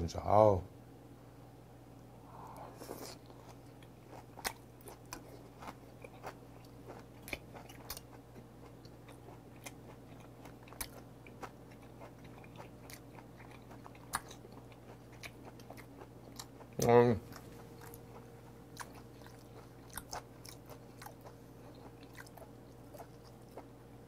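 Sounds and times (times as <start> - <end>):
man chewing with mouth smacks: 2.4 - 23.8.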